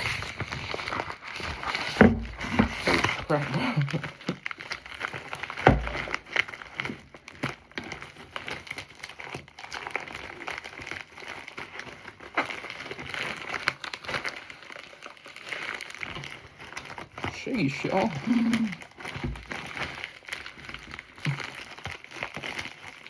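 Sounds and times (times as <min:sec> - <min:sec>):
clicks and crackles: 0:00.0 - 0:23.0
packaging crinkling and rustling: 0:00.0 - 0:23.0
packaging tearing: 0:00.0 - 0:23.0.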